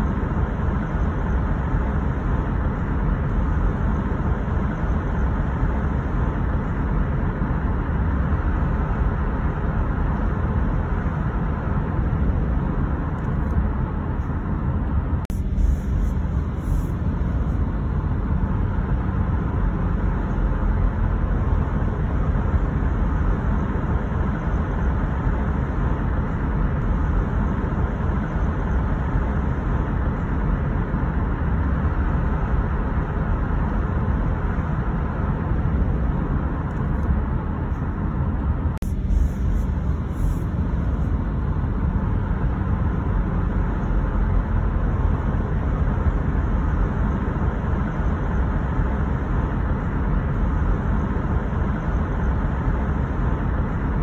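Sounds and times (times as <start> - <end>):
car road noise at speed: 0.0 - 54.0.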